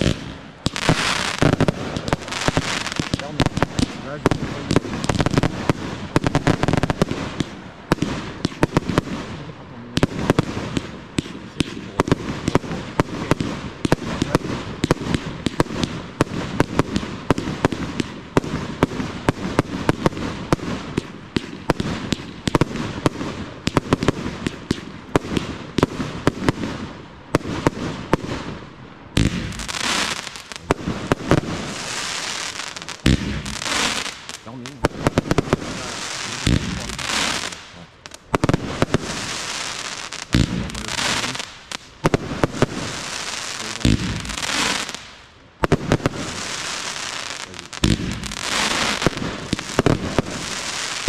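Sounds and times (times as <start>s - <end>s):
fireworks hiss: 0.0s - 24.9s, 29.2s - 51.0s
fireworks banging and crackling: 0.0s - 51.0s.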